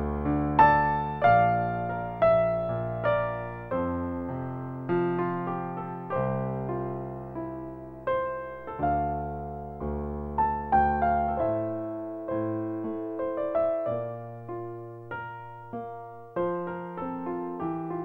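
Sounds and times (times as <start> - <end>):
slow solo piano: 0.0 - 18.0.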